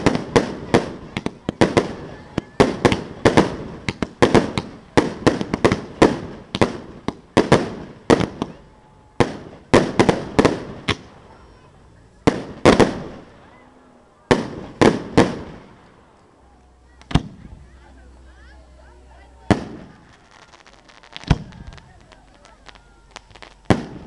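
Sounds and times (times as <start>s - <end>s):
fireworks bangs: 0.0s - 13.5s, 14.2s - 16.2s, 16.8s - 24.0s.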